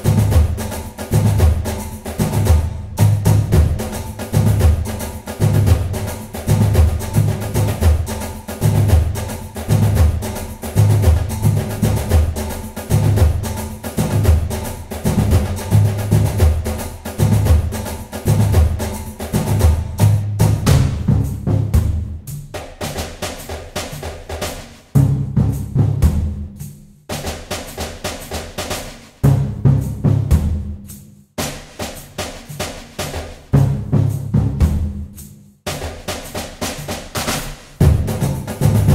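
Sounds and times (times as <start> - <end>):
drum-led background music: 0.0 - 38.9.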